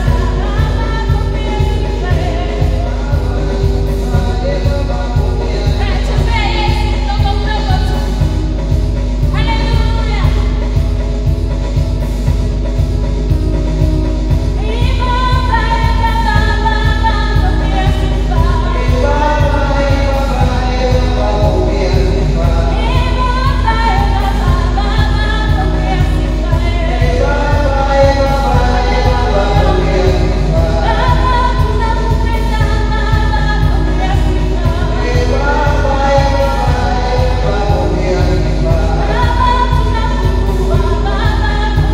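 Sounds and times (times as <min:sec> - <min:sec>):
instrumental accompaniment beat: 0:00.0 - 0:41.9.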